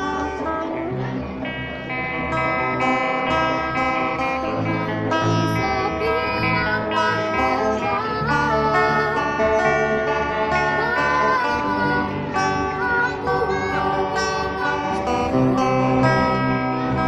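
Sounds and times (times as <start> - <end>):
girl singing into microphone: 3.3 - 17.0.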